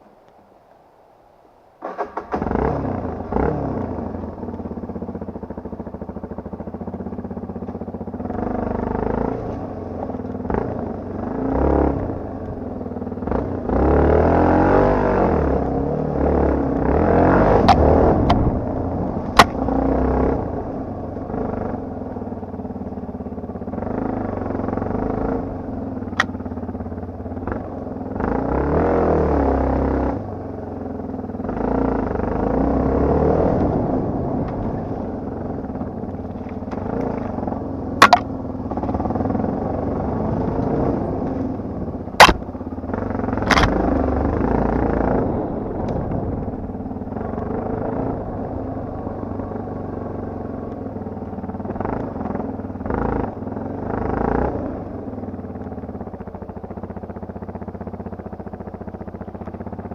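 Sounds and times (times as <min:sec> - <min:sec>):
motorcycle engine revving: 0:01.8 - 0:59.9.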